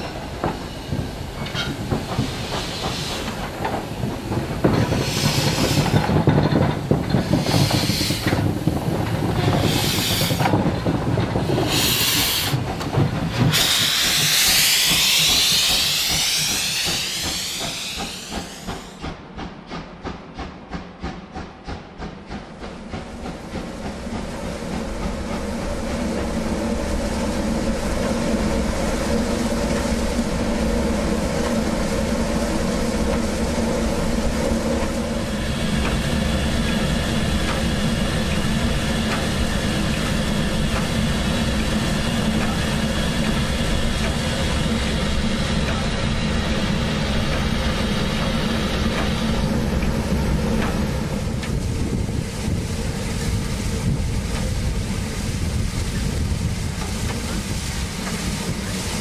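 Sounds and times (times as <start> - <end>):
model steam locomotive drone with hiss: 0.0 - 10.7, 11.4 - 19.1, 22.8 - 59.0.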